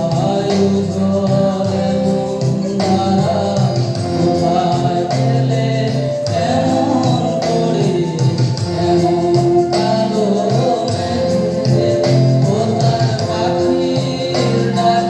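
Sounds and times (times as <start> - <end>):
backing music over loudspeaker: 0.0 - 15.0
man singing into a microphone: 0.0 - 15.0.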